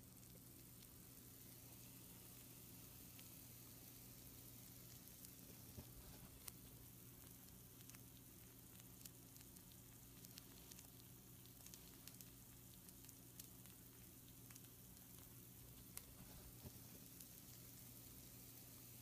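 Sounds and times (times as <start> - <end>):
food sizzling on a baking sheet: 0.0 - 19.0
steady low hum: 0.0 - 19.0.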